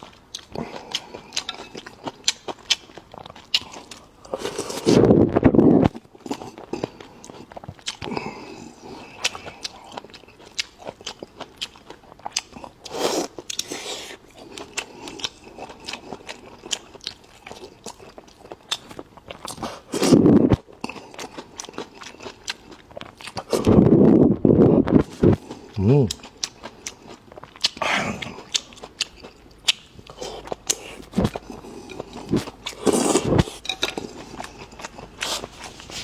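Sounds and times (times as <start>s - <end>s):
chewing and biting food: 0.0s - 24.1s, 24.9s - 36.0s.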